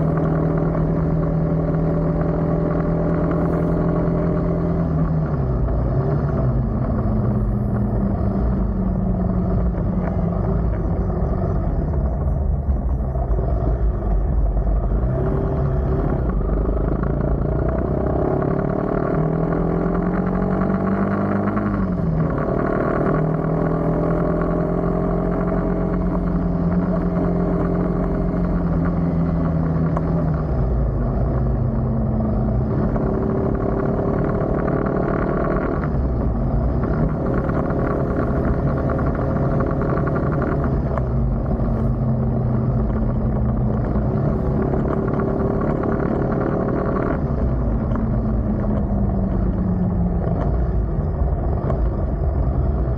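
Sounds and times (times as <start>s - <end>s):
road noise rumble: 0.0s - 52.9s
vehicle engine running: 0.0s - 52.9s.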